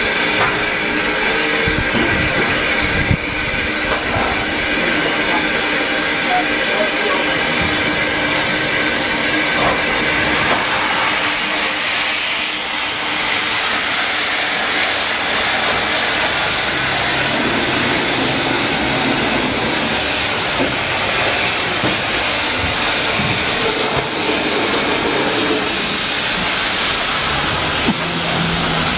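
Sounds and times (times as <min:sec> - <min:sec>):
train running noise with hiss: 0:00.0 - 0:28.9.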